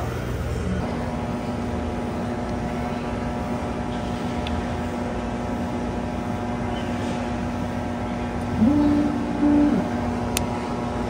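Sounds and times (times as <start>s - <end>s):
cotton candy machine humming: 0.0s - 11.0s.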